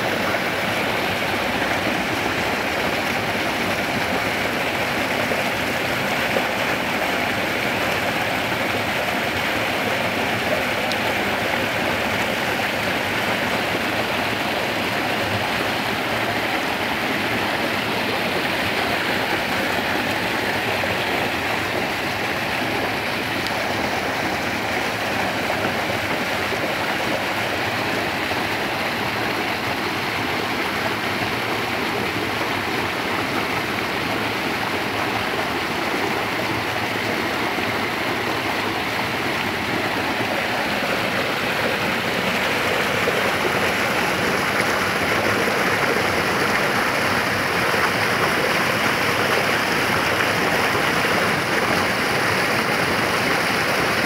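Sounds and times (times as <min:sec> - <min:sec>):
waterfall splashing into pool: 0:00.0 - 0:54.0.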